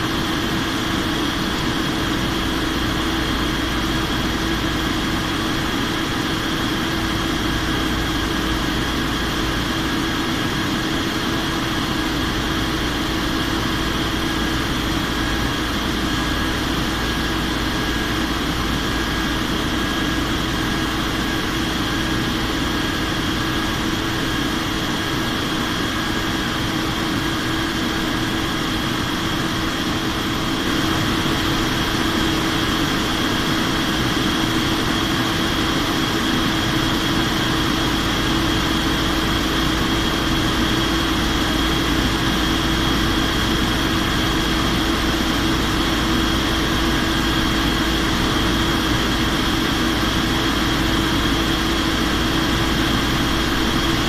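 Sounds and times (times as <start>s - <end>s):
airplane cabin engine hum: 0.0s - 54.0s
high engine whine: 0.0s - 54.0s.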